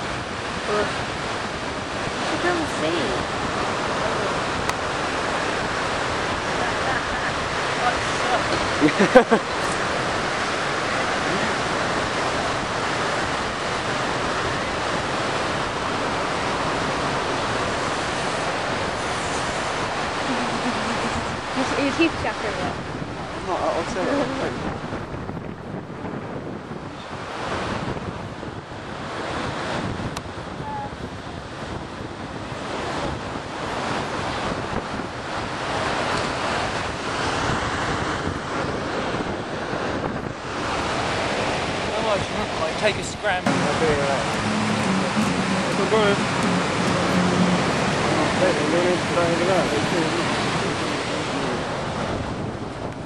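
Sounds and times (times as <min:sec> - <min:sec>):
ocean surf breaking: 0:00.0 - 0:53.0
wind buffeting microphone: 0:00.0 - 0:53.0.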